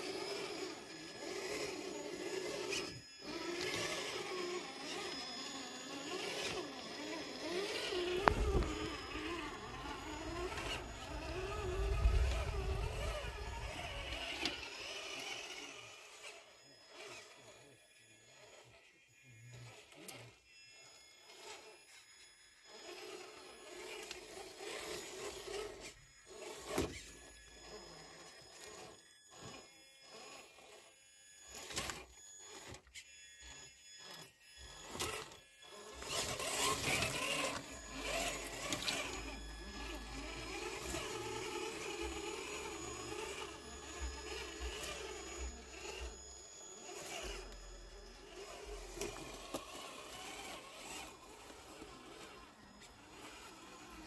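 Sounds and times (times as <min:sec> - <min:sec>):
electric motor and gears whining: 0:00.0 - 0:54.0.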